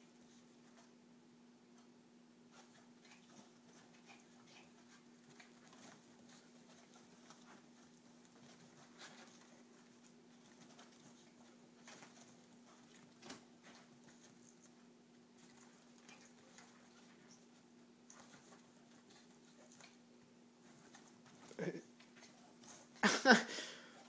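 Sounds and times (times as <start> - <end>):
animals scuffling on upholstery: 2.5 - 23.0.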